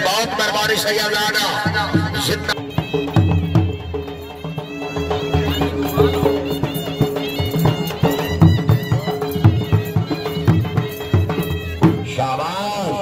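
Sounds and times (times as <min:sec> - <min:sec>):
wind instrument melody: 0:00.9 - 0:13.0
drums beating quick rhythm: 0:01.4 - 0:12.4.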